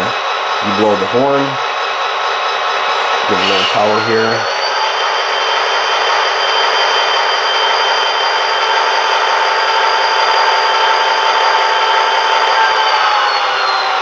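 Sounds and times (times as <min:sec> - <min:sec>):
model locomotive engine sound: 0:00.0 - 0:14.0
high whining tones: 0:02.5 - 0:14.0.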